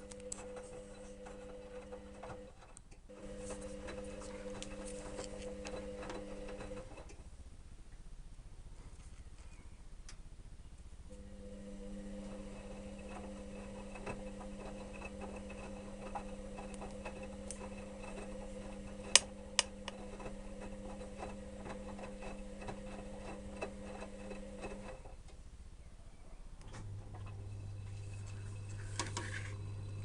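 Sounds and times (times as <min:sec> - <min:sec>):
washing machine motor hum: 0:00.0 - 0:07.4, 0:11.1 - 0:25.4, 0:26.5 - 0:30.0.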